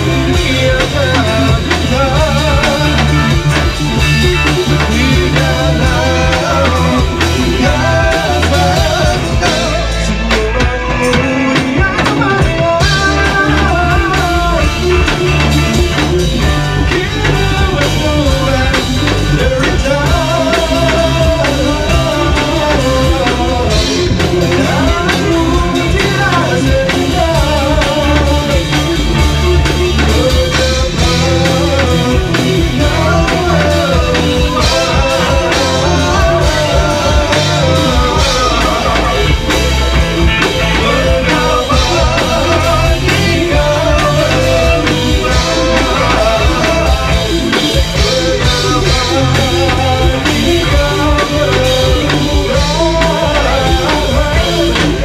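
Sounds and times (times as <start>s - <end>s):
drum kit: 0.0s - 55.0s
electric guitar: 0.0s - 55.0s
man singing: 0.0s - 55.0s.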